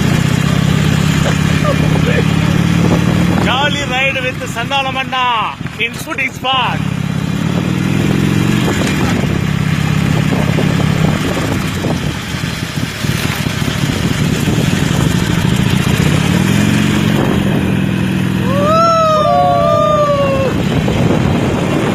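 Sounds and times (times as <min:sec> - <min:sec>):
wind over microphone: 0:00.0 - 0:04.7, 0:05.4 - 0:21.9
motorcycle engine: 0:00.0 - 0:21.9.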